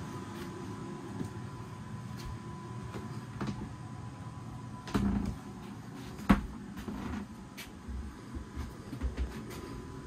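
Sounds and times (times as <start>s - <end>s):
faint high whine: 0.0s - 10.0s
steady low hum: 0.0s - 10.0s.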